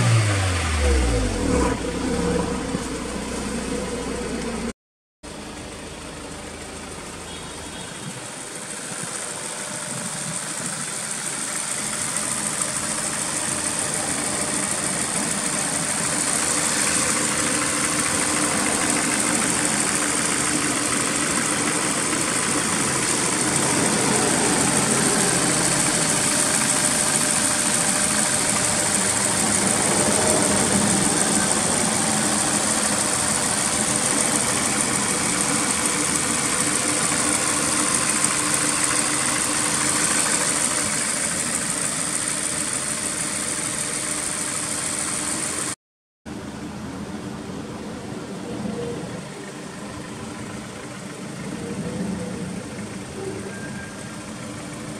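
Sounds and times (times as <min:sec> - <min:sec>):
car engine idling: 0:00.0 - 0:45.8, 0:46.4 - 0:54.9.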